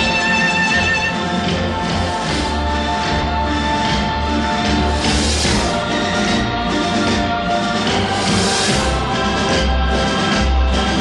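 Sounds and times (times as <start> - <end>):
orchestral music: 0.0 - 11.0.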